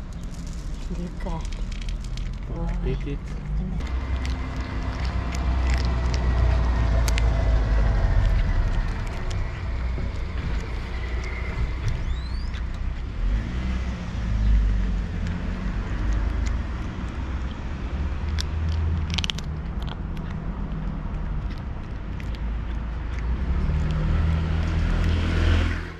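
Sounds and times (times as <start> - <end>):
cat crunching dry kibble: 0.0 - 13.2, 15.0 - 25.7
low outdoor rumble: 0.0 - 25.9.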